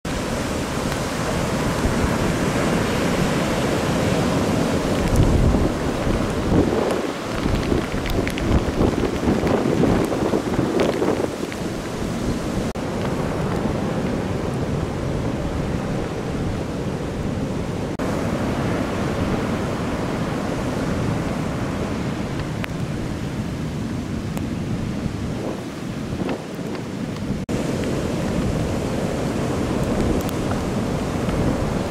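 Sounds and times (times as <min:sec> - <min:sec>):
surf crashing against pier pilings: 0:00.1 - 0:31.9
wind buffeting microphone: 0:00.1 - 0:31.9.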